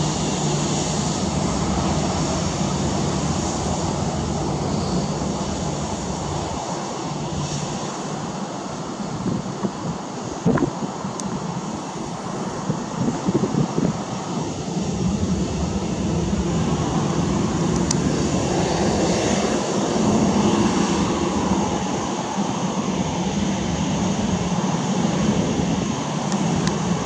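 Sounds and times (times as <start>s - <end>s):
jet engines taxiing rumble: 0.0s - 27.0s.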